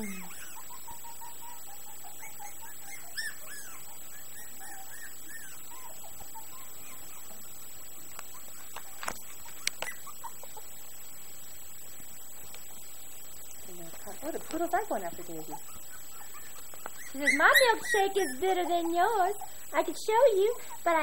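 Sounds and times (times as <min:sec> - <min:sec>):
puppies squeaking and whimpering: 0:00.0 - 0:11.8, 0:13.9 - 0:21.0.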